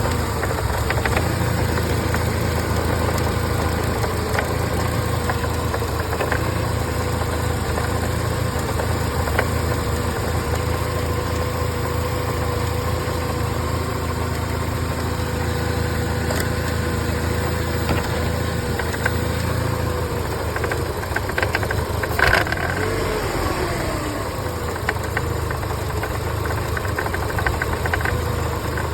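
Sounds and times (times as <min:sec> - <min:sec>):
car engine idling unevenly: 0:00.0 - 0:28.9.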